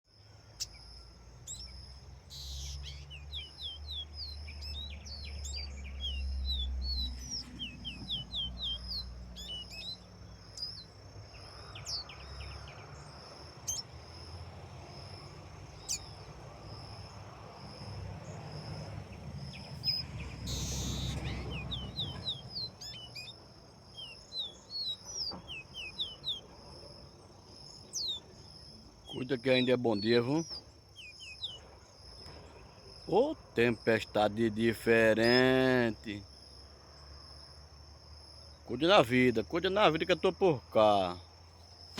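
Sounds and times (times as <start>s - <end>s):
songbird chirping: 0.1s - 41.9s.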